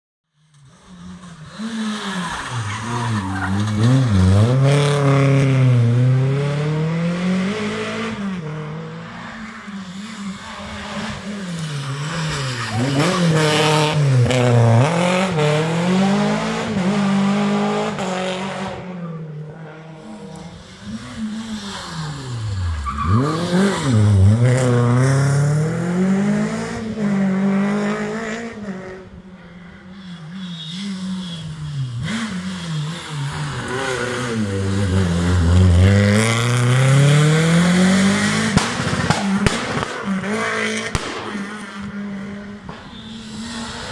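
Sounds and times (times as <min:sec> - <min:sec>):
rally car engines revving: 0:00.5 - 0:43.9.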